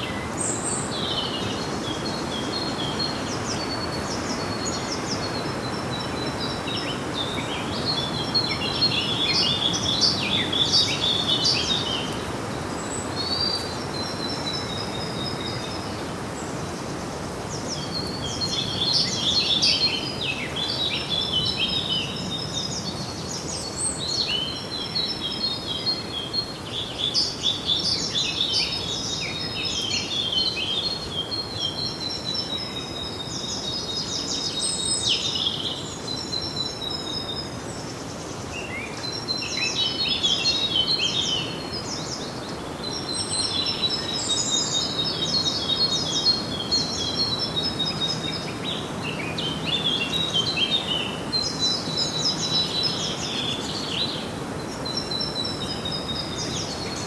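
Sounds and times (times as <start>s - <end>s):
songbirds singing and chirping: 0.0s - 57.0s
steady background hiss: 0.0s - 57.0s.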